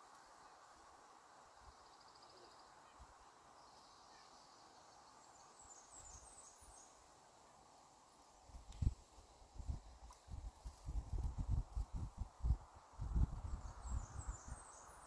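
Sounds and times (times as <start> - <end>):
steady low hiss: 0.0 - 15.0
small birds chirping: 1.5 - 15.0.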